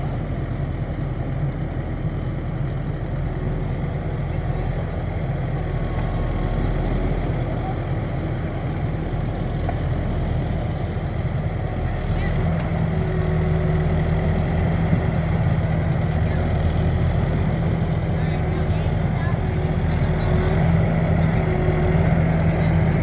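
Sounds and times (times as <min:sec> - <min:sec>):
loader engine running: 0:00.0 - 0:23.0.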